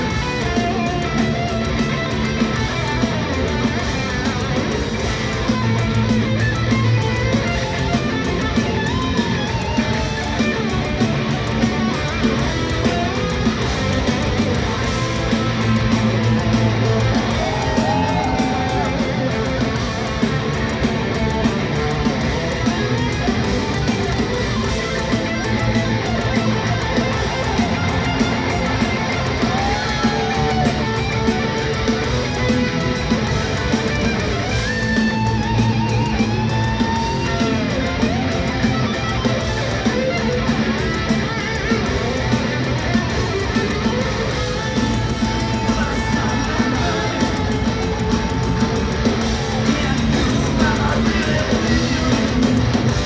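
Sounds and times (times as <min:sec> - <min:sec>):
bass guitar: 0:00.0 - 0:53.0
distorted electric guitars: 0:00.0 - 0:53.0
drums: 0:00.0 - 0:53.0.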